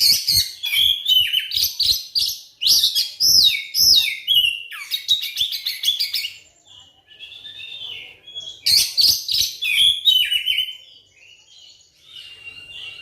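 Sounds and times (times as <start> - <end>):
bird singing chirps and whistles: 0.0 - 13.0.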